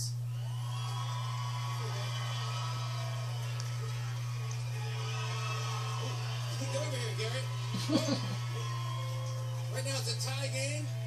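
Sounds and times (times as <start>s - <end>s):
faint background music: 0.0s - 11.0s
steady low hum: 0.0s - 11.0s
voices from television: 0.0s - 11.0s.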